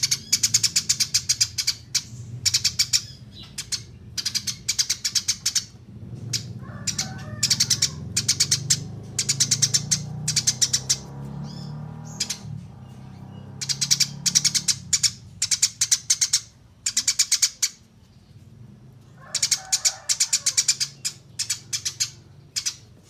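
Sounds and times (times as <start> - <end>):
sparrow chirping in bursts: 0.0 - 23.0.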